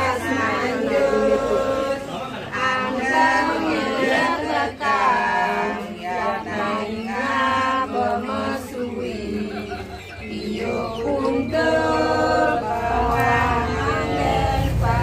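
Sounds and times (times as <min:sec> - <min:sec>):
voices singing a ritual chant: 0:00.0 - 0:15.0.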